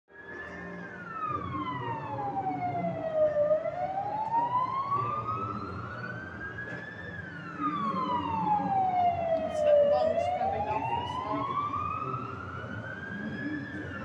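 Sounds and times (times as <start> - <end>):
siren wailing: 0.2 - 14.0.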